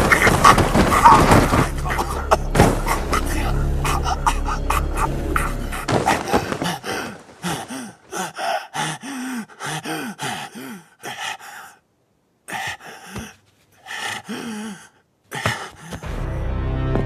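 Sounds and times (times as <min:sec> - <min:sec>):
man gasping and groaning: 0:00.0 - 0:11.8, 0:12.5 - 0:16.4.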